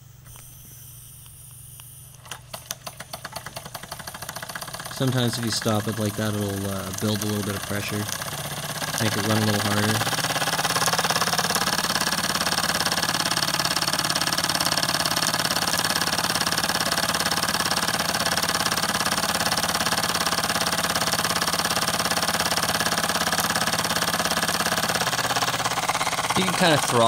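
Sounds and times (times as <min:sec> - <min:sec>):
toy steam engine running: 0:02.2 - 0:27.0
vibration rattling on tile: 0:02.7 - 0:27.0.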